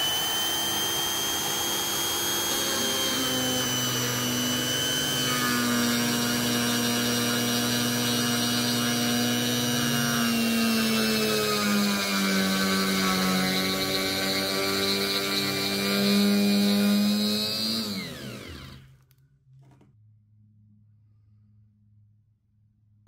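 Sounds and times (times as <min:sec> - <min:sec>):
router bit cutting wood: 0:00.0 - 0:18.9
router motor high whine: 0:00.0 - 0:19.0.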